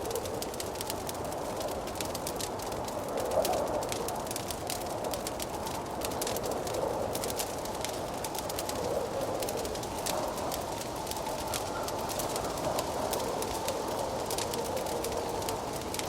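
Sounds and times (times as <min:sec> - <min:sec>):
howling wind: 0:00.0 - 0:16.0
wood fire crackling and popping: 0:00.0 - 0:16.0.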